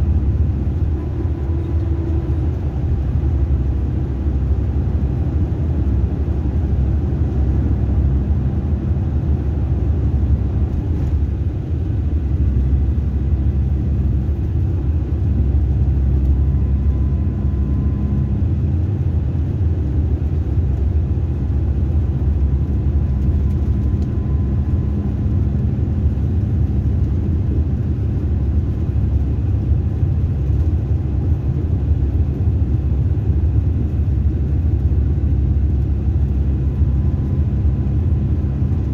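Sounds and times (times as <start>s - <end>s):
bus engine rumble inside cabin: 0.0s - 38.9s.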